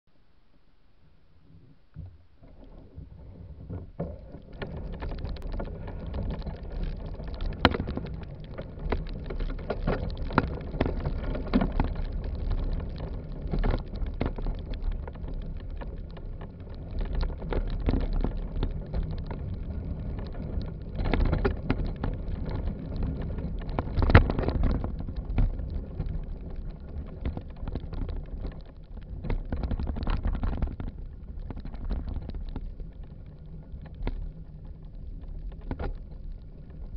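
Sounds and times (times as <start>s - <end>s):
bicycle rattling on dirt trail: 2.4s - 36.9s.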